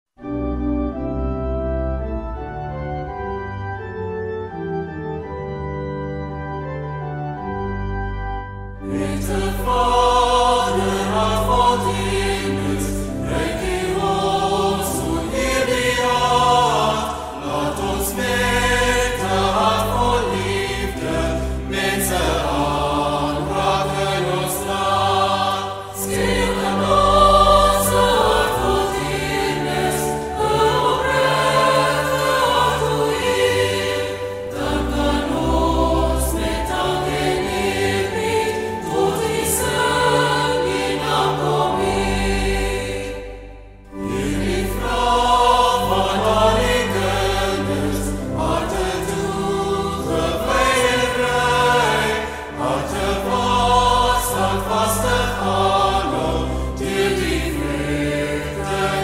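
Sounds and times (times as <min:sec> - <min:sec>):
organ chords: 0:00.2 - 0:59.0
choir singing: 0:08.7 - 0:59.0.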